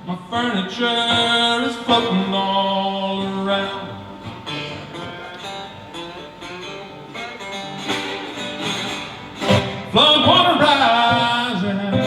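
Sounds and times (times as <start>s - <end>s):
acoustic blues guitar: 0.0s - 12.0s
person singing: 0.0s - 12.0s.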